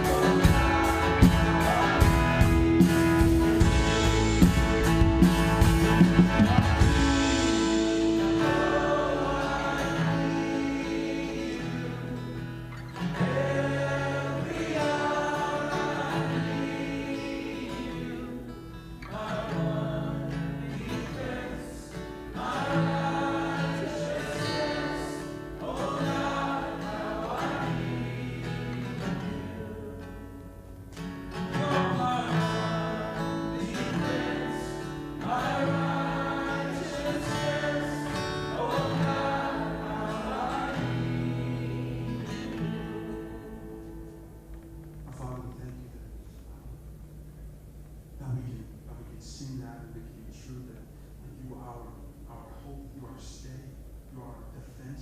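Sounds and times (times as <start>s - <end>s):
congregation singing: 0.0s - 46.0s
acoustic guitar: 0.0s - 55.0s.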